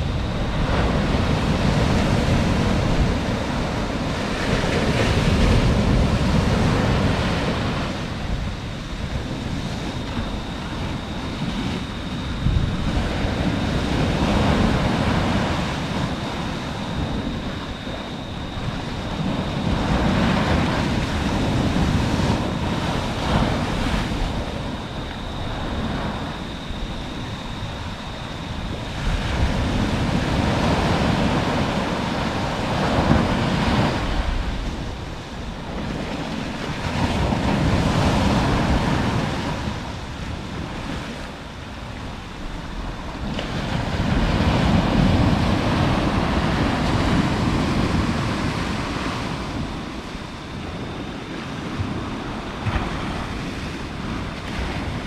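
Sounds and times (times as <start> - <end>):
surf breaking on beach: 0.0 - 55.0
wind buffeting microphone: 0.0 - 55.0.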